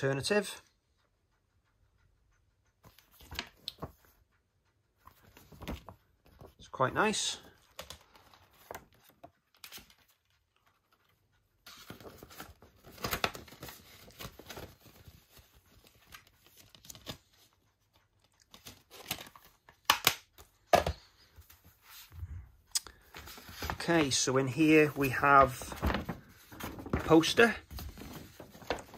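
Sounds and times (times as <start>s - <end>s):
paper and card rustling: 2.8s - 4.2s, 5.0s - 22.2s, 22.9s - 28.9s.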